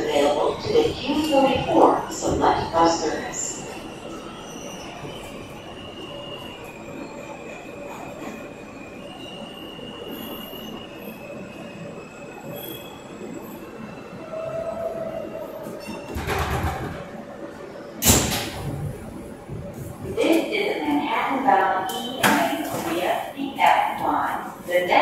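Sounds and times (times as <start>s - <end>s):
subway train in a tunnel: 0.0s - 25.0s.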